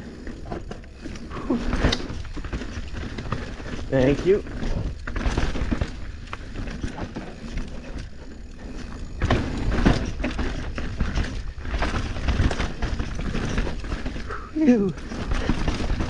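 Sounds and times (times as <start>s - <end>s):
bike rattling over rocks: 0.0s - 16.0s
bike tyres rumbling on rocky trail: 0.0s - 16.0s.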